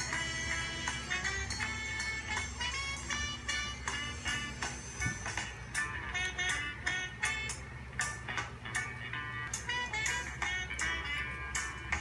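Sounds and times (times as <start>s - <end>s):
upbeat reggae music: 0.0s - 12.0s.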